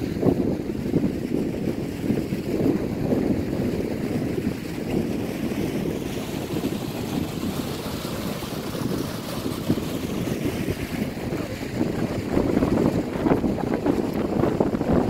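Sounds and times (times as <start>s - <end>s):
stream rushing over rocks: 0.0s - 15.0s
wind buffeting microphone: 0.0s - 15.0s.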